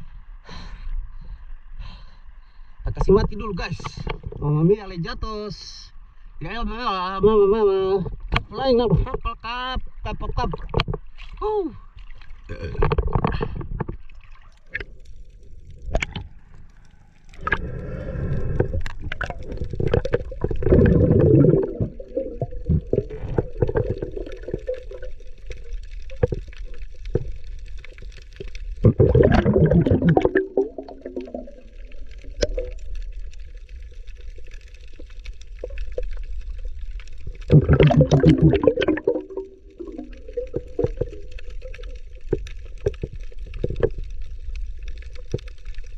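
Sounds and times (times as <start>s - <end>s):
low underwater background: 0.0s - 45.9s
underwater bubbling: 7.2s - 45.9s.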